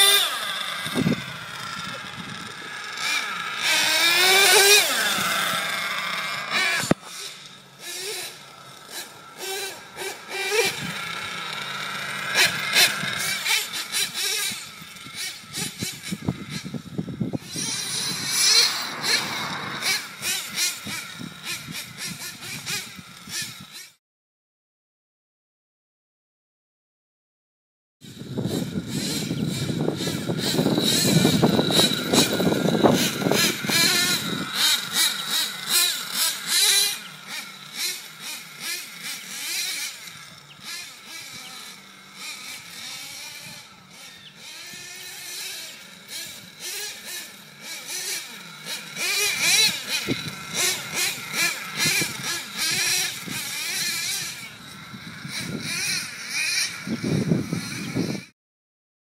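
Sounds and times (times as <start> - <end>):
rc truck engines revving: 0.0 - 24.0, 28.0 - 58.3.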